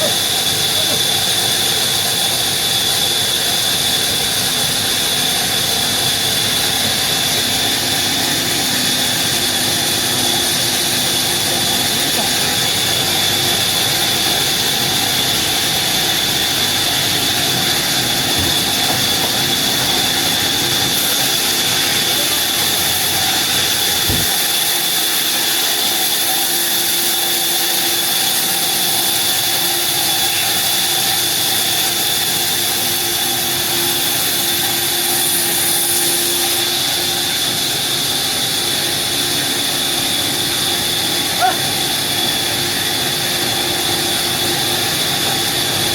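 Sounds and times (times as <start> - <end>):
sawmill saw hissing and whining: 0.0 - 45.9.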